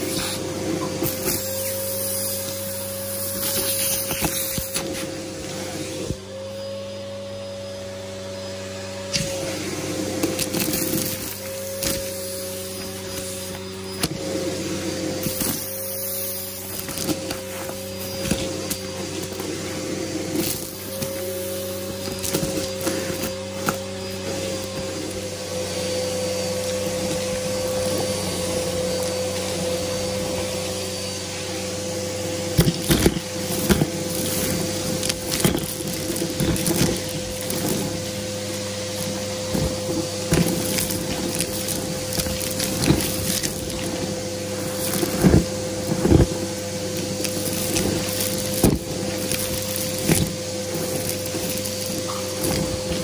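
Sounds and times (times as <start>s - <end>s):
vacuum cleaner motor whine: 0.0s - 53.0s.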